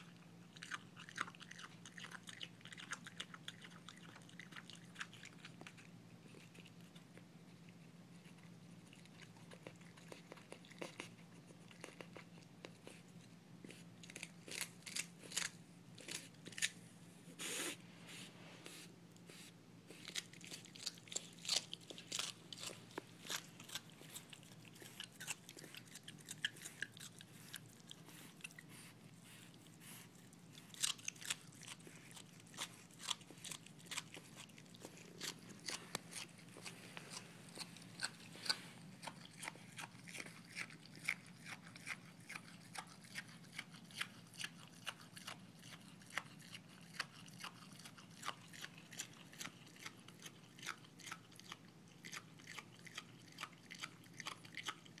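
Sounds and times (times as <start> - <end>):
animal chewing with mouth open: 0.0 - 16.8, 17.4 - 55.0.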